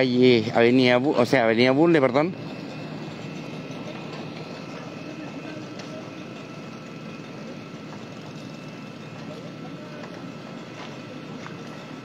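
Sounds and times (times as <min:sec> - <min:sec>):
faint high whine: 0:00.0 - 0:12.0
fire engines droning: 0:00.0 - 0:12.0.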